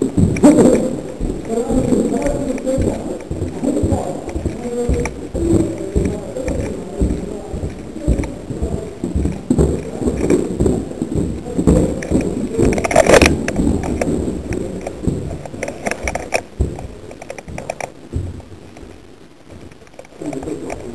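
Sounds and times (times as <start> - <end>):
gear and clothing rubbing: 0.0 - 18.0
footsteps on wooden floor: 0.0 - 19.9.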